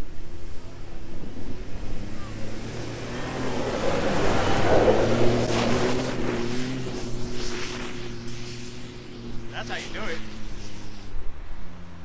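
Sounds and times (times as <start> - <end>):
truck engine running: 0.0 - 11.2
rushing noise: 0.0 - 11.8.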